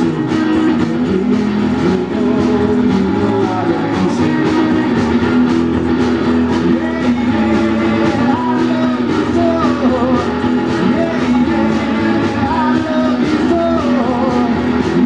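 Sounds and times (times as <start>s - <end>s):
drum beat: 0.0s - 15.0s
electric guitars: 0.0s - 15.0s.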